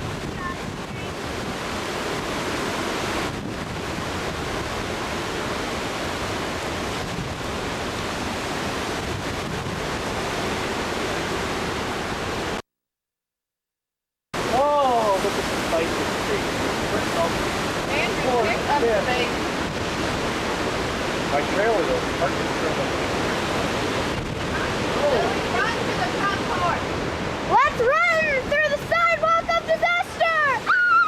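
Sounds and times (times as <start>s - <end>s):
strong wind rushing: 0.0s - 12.6s, 14.4s - 31.0s
wind buffeting microphone: 0.0s - 12.6s, 14.4s - 31.0s.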